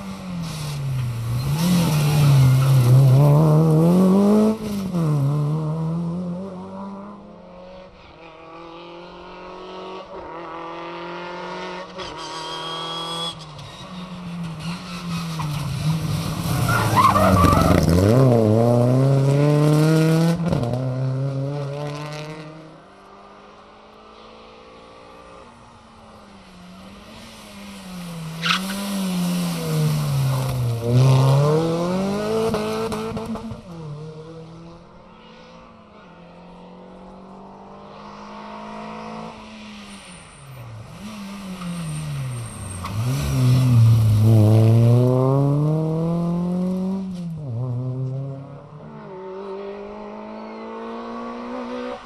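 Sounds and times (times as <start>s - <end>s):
rally cars passing at speed: 0.0s - 52.0s.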